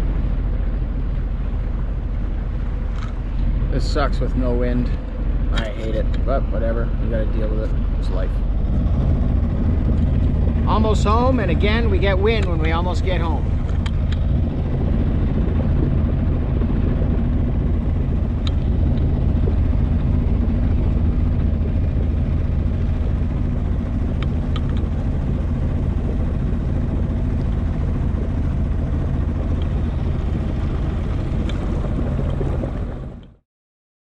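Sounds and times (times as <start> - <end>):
boat engine humming: 0.0 - 33.4
water rushing past hull: 0.0 - 33.4.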